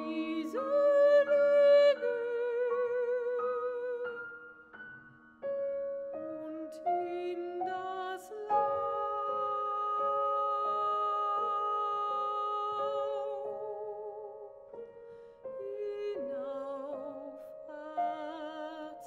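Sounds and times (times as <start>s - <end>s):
woman singing with vibrato: 0.0s - 4.1s, 6.2s - 14.4s, 15.6s - 19.0s
piano chords: 0.0s - 19.0s.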